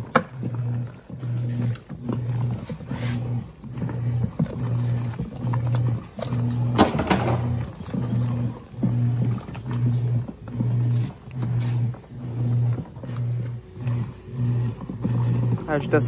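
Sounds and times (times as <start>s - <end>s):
soapy water churning and sloshing: 0.0s - 16.0s
washer motor humming in pulses: 0.0s - 16.0s.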